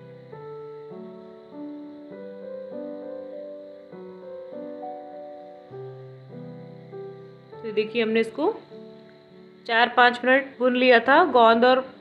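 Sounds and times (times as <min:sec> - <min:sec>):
slow gentle keyboard music: 0:00.0 - 0:12.0.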